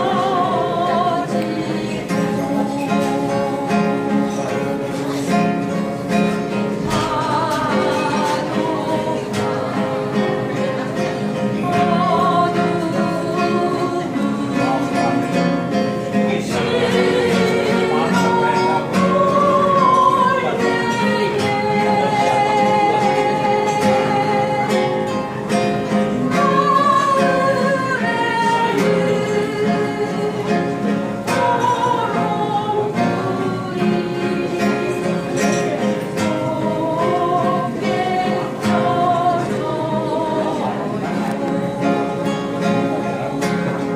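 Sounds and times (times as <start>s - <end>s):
person singing with vibrato: 0.0s - 43.9s
plucked guitar: 0.0s - 43.9s.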